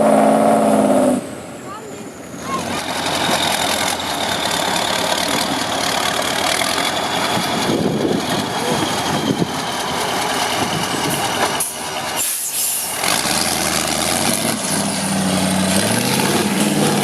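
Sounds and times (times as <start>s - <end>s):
heavy truck engine running: 0.0s - 17.0s.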